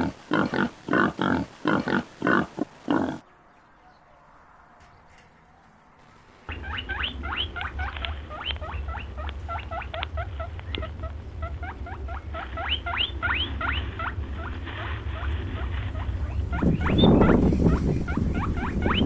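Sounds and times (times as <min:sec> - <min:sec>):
low hum: 0:02.7 - 0:19.0.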